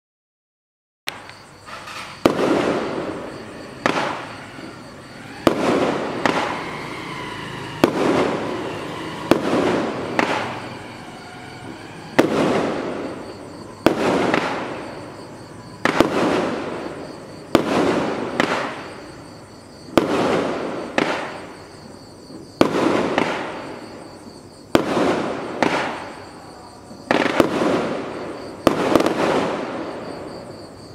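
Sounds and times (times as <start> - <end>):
firework bangs: 1.1 - 30.9.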